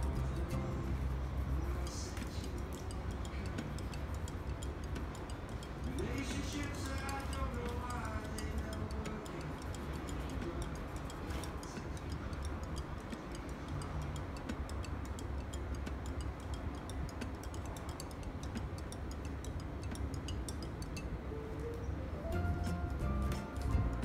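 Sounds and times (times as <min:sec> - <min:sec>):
rapid light ticking: 0:00.0 - 0:21.9
steady low hum: 0:00.0 - 0:24.0.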